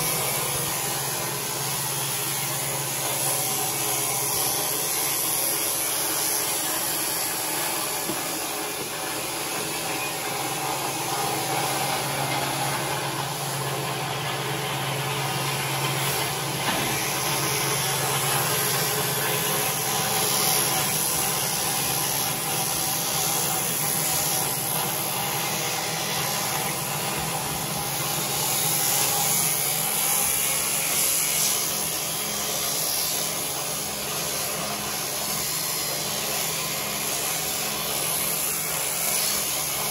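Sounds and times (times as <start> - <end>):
electric shears buzzing: 0.0 - 39.9.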